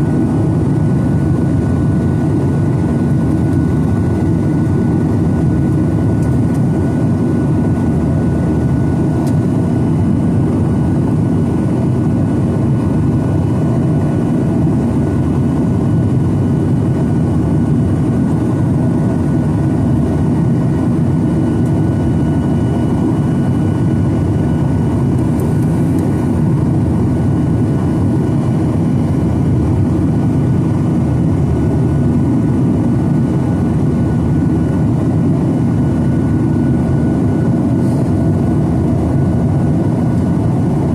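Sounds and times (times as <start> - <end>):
airplane cabin engine rumble: 0.0 - 40.9
faint steady whine: 0.0 - 40.9.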